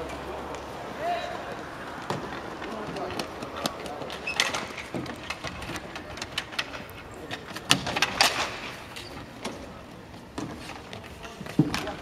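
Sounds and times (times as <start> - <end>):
hockey sticks clacking on asphalt: 0.0 - 12.0.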